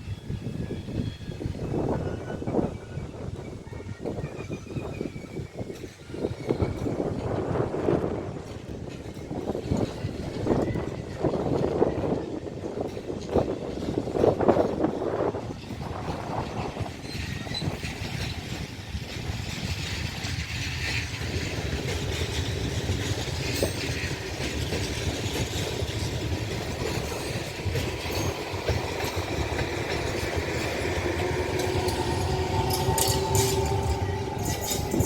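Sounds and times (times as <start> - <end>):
train wheels on rails: 0.0 - 35.0.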